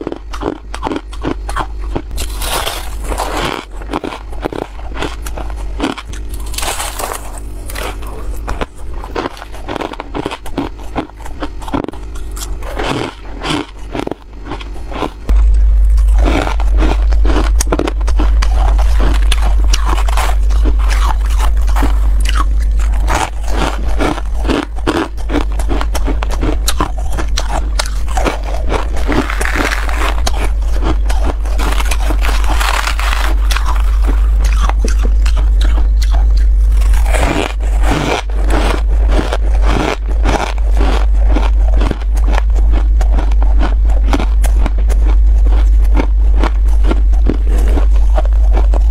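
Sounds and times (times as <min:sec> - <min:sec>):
frost being chewed: 0:00.0 - 0:48.9
steady low hum: 0:00.0 - 0:48.9.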